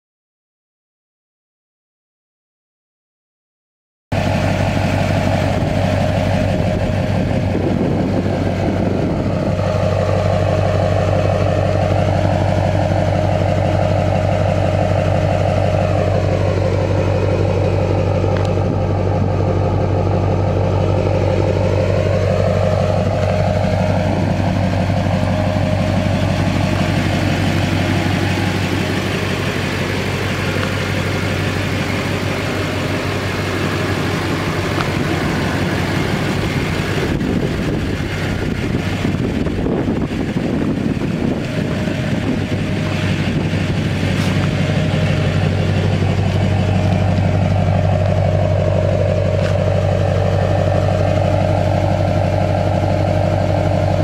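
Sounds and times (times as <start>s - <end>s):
diesel engine idling: 4.1s - 54.0s.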